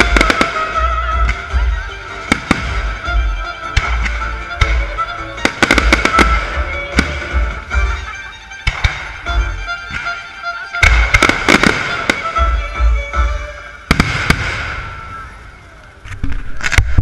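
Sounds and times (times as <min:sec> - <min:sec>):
music playing: 0:00.0 - 0:16.1
fireworks exploding: 0:00.0 - 0:17.0.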